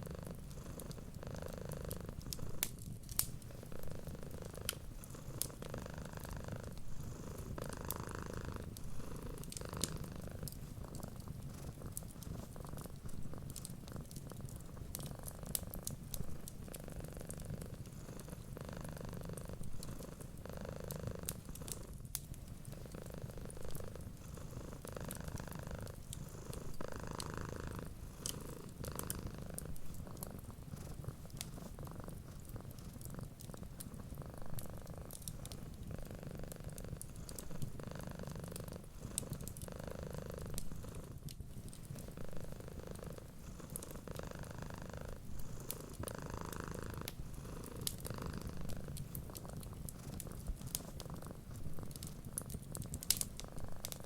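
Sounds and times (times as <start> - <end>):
cat purring: 0.0 - 54.0
wood fire popping: 2.0 - 6.8, 8.0 - 18.5, 19.3 - 24.1, 24.8 - 39.7, 40.4 - 44.2, 45.0 - 54.0.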